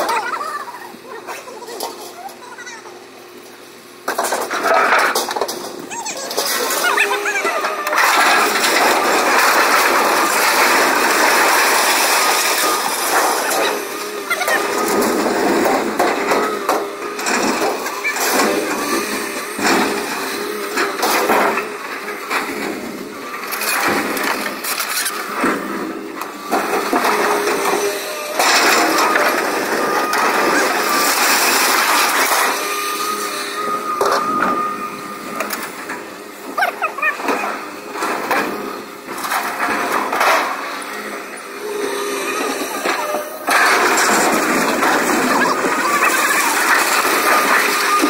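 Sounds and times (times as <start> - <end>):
excavator diesel engine running: 0.0 - 48.0
scrap metal clanging and crashing: 4.0 - 48.0.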